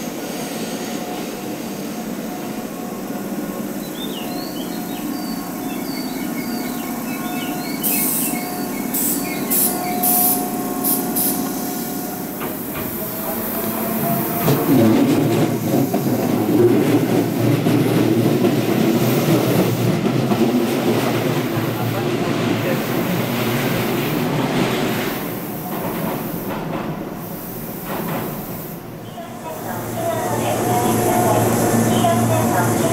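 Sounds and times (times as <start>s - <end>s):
train running over rails: 0.0s - 32.9s.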